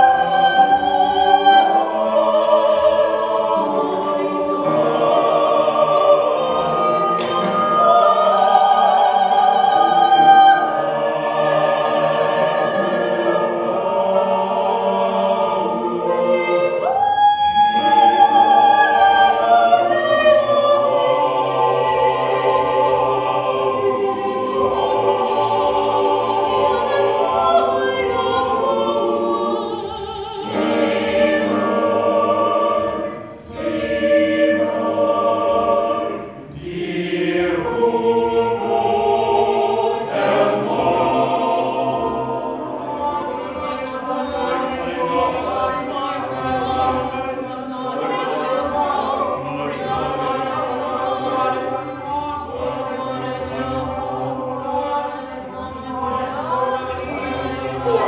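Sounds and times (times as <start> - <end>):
vocal ensemble singing in harmony: 0.0 - 58.0.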